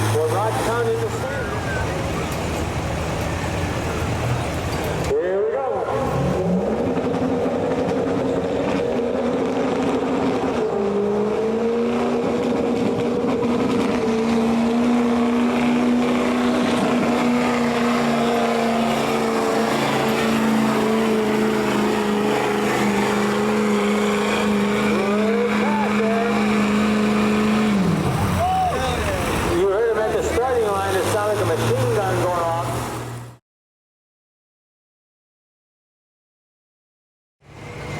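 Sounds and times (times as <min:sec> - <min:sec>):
pulling vehicle engine revving: 0:00.0 - 0:05.1, 0:05.7 - 0:33.4.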